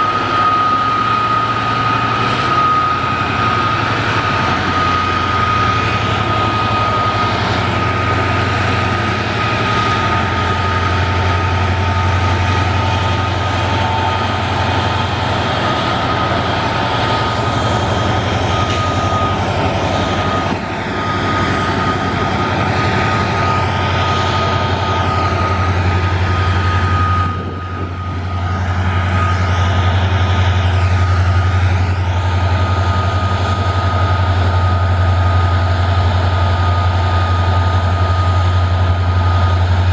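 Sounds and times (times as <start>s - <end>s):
diesel locomotive engines rumbling: 0.0s - 39.9s
thin high whine: 0.0s - 39.9s.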